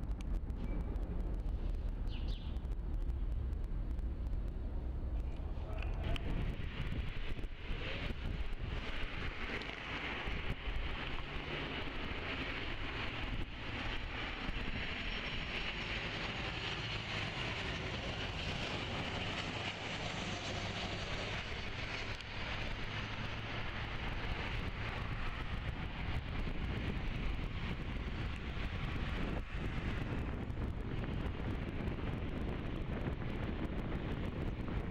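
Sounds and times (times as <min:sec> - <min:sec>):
jet engines roaring: 0:00.0 - 0:34.9
wind buffeting microphone: 0:00.0 - 0:34.9.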